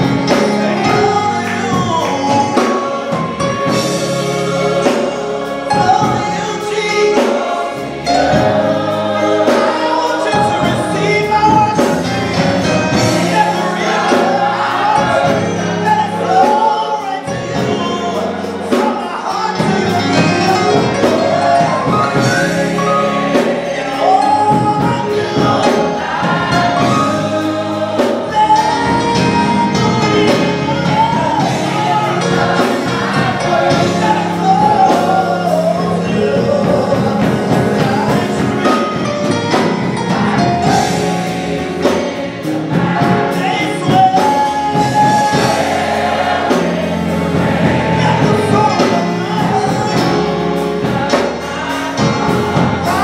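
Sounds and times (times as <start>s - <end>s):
gospel choir singing: 0.0s - 53.0s.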